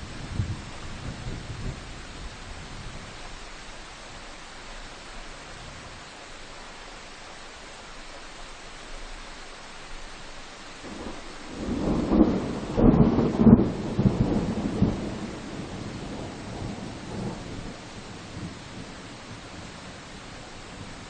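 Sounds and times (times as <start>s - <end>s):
rain hissing in forest: 0.0s - 21.0s.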